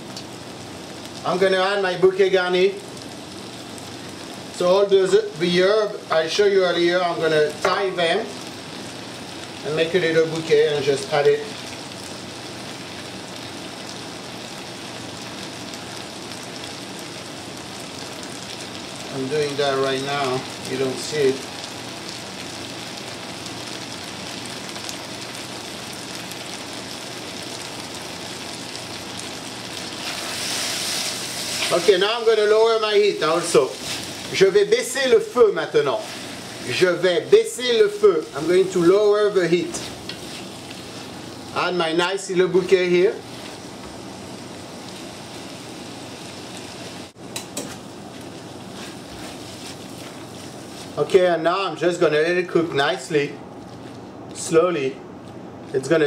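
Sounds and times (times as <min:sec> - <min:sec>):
vegetables sizzling in oil: 0:00.0 - 0:54.5.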